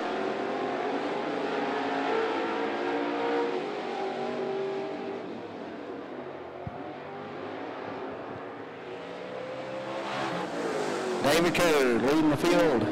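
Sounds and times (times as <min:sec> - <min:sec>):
race car engines at full throttle: 0:00.0 - 0:12.9.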